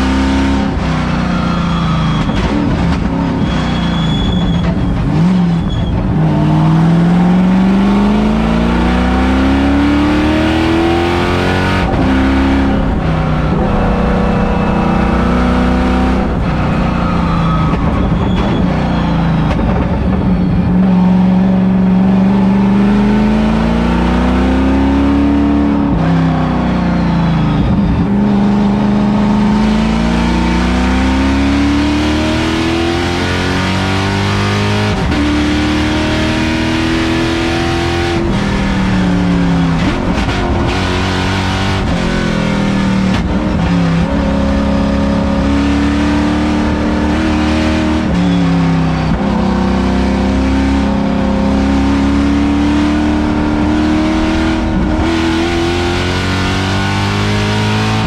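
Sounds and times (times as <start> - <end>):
engine accelerating from inside car: 0.0 - 58.0.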